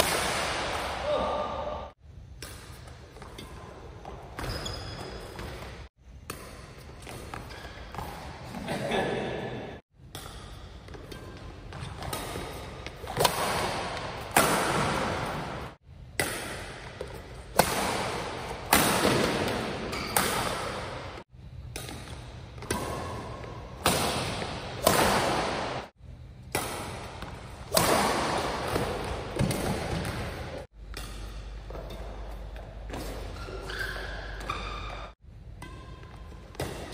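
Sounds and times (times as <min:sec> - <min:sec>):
rackets hitting shuttlecock: 0:00.0 - 0:01.2, 0:02.3 - 0:08.5, 0:10.0 - 0:36.9.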